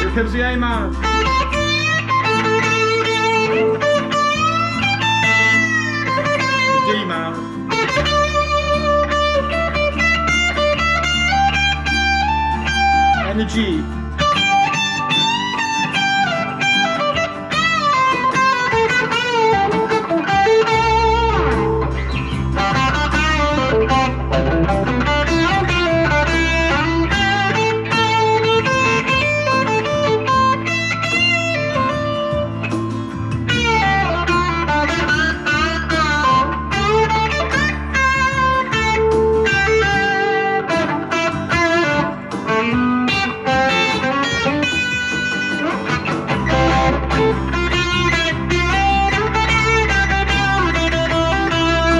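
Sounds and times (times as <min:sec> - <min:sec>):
backing track with bass line: 0:00.0 - 0:51.9
overdriven electric guitar lead: 0:00.0 - 0:51.9.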